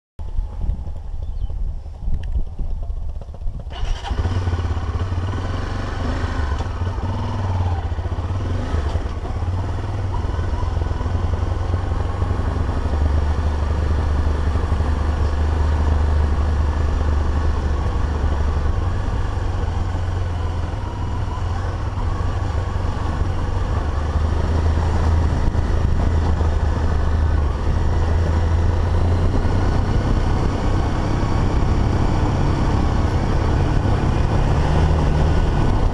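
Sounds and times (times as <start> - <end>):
motorcycle engine running: 0.2 - 35.9
road and wind noise: 0.2 - 35.9.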